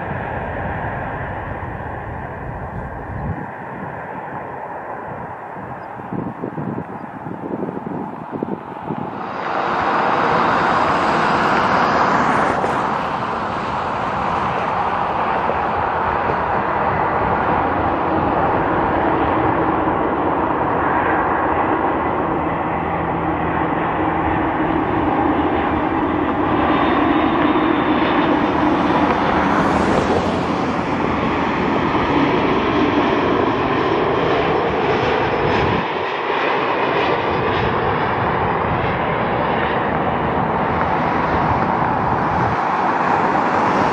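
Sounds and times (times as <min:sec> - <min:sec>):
jet engine rumble and whine: 0:00.0 - 0:43.9.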